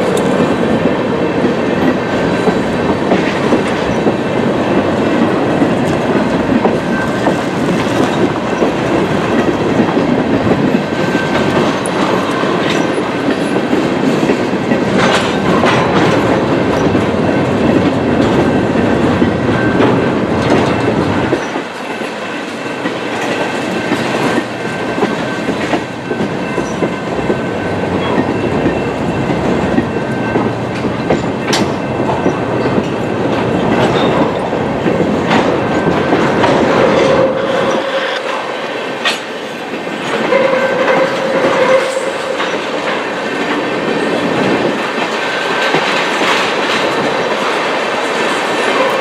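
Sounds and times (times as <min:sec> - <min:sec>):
freight train rolling past: 0:00.0 - 0:49.0.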